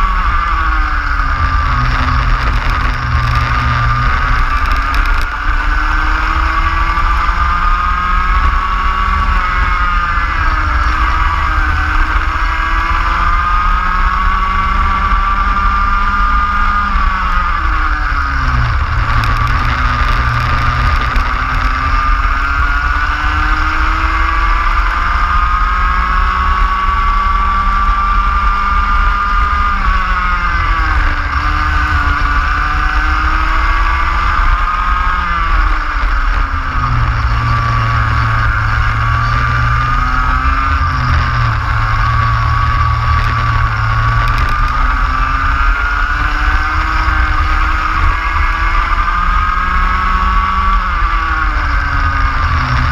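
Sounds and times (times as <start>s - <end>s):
kart engine revving: 0.0s - 52.9s
wind rumble on microphone: 0.0s - 52.9s.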